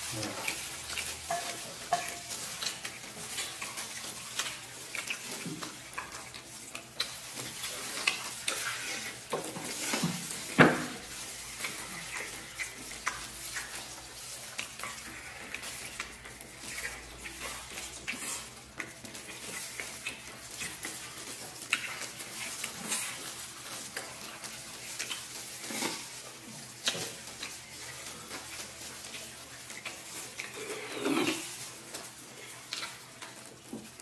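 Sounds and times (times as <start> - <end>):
people chewing meat: 0.0 - 34.0.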